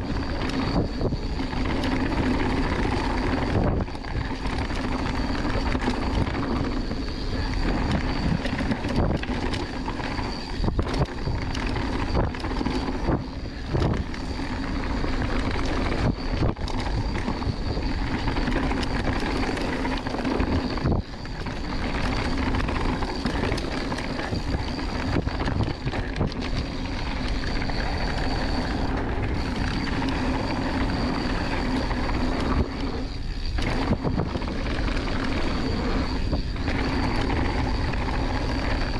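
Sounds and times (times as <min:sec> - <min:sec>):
tyres rushing on dirt: 0:00.0 - 0:38.9
wind buffeting microphone: 0:00.0 - 0:38.9.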